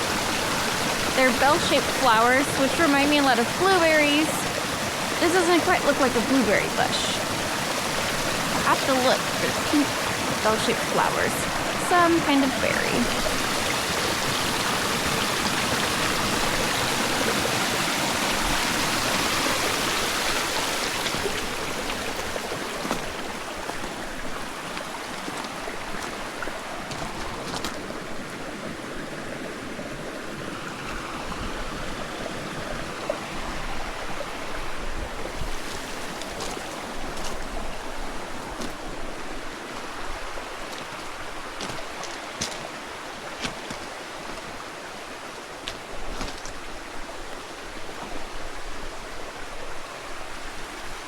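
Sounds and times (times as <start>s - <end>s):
stream running: 0.0s - 51.0s.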